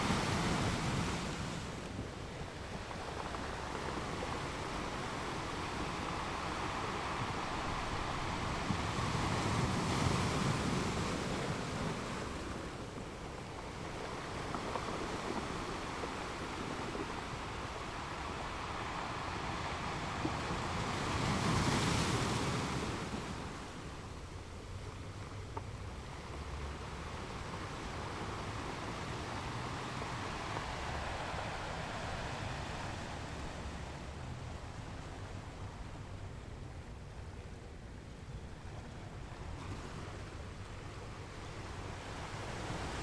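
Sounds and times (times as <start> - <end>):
ocean waves washing onto shore: 0.0 - 43.0.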